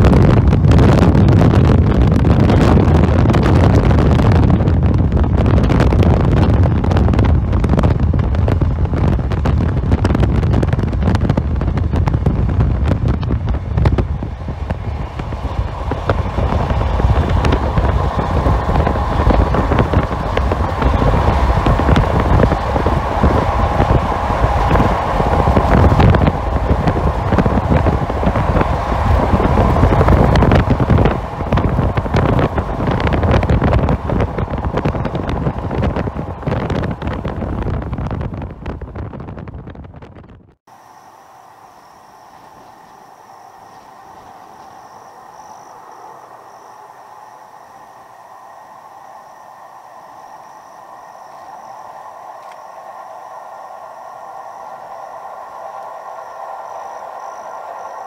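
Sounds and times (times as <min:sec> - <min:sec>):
wind buffeting microphone: 0:00.0 - 0:40.7, 0:41.8 - 0:58.0
road rumble: 0:00.0 - 0:58.0
steady hum: 0:00.0 - 0:58.0.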